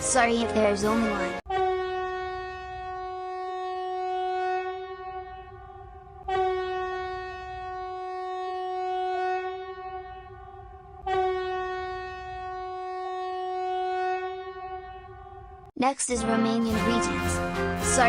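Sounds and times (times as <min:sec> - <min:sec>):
horn-like alert alarm tone: 0:00.8 - 0:18.0.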